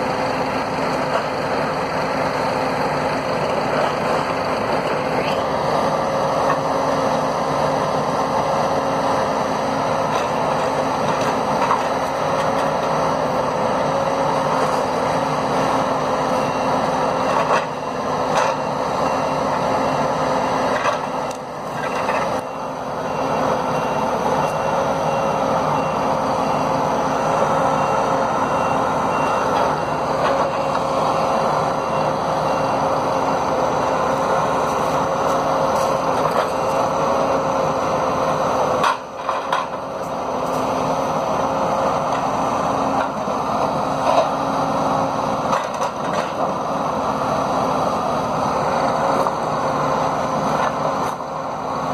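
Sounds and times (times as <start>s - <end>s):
diesel engine running: 0.0s - 51.9s
hydraulic crane whining: 0.0s - 51.9s.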